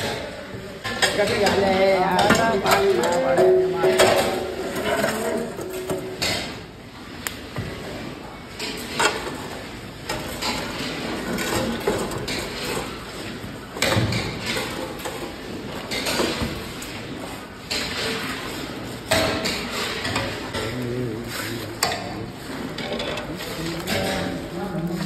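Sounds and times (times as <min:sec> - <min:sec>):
background noise: 0:00.0 - 0:25.0.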